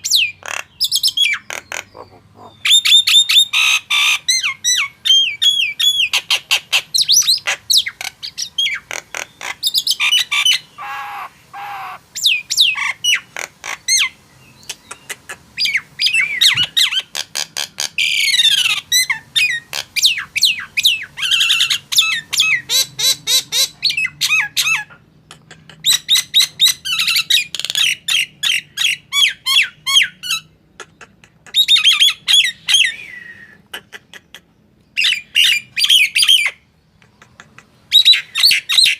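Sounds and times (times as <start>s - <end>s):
myna whistling and squawking: 0.0s - 38.9s.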